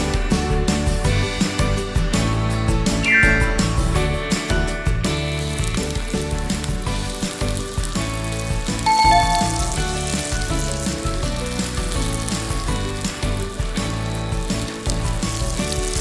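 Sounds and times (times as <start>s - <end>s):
background music with steady beat: 0.0s - 16.0s
meat sizzling in hot oil: 0.0s - 16.0s.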